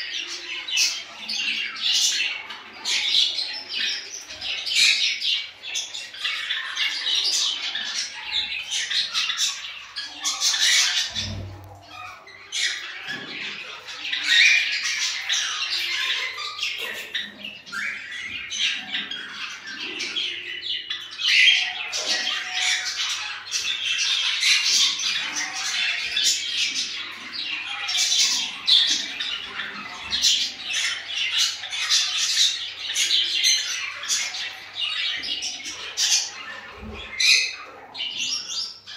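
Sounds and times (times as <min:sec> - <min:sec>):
cockatiels squawking and chirping: 0:00.0 - 0:38.9.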